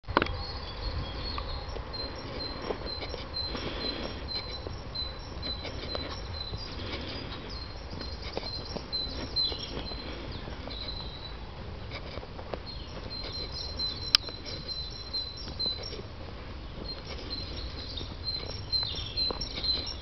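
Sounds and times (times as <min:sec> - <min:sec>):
steady low rumble: 0:00.1 - 0:20.0.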